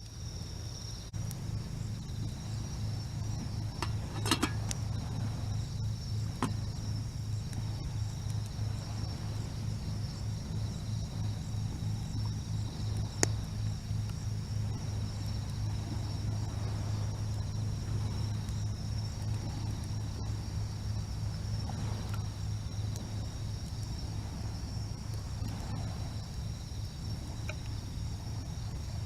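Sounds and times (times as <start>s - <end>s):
insects chirring: 0.0s - 29.0s
steady low hum: 0.0s - 29.0s.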